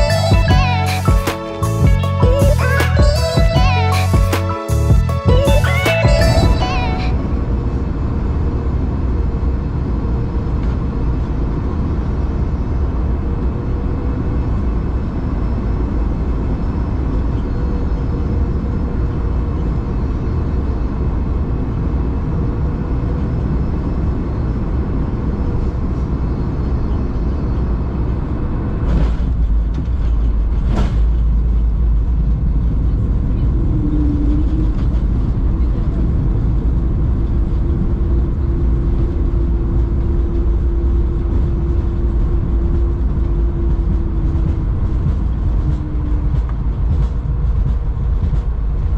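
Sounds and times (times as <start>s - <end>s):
airplane cabin rumble and hum: 0.0s - 48.9s.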